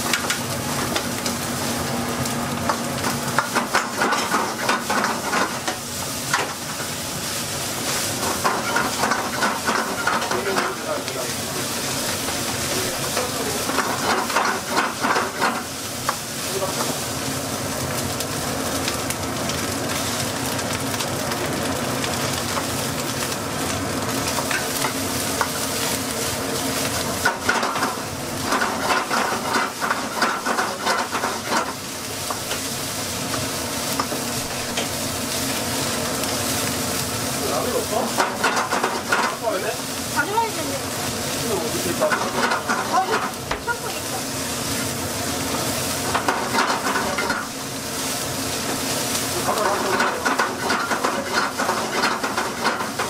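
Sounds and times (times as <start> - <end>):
rice sizzling in a wok: 0.0 - 53.0.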